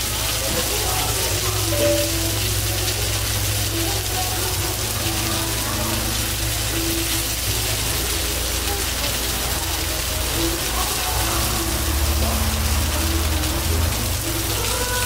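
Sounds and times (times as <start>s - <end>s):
chicken sizzling on griddle: 0.0s - 15.0s.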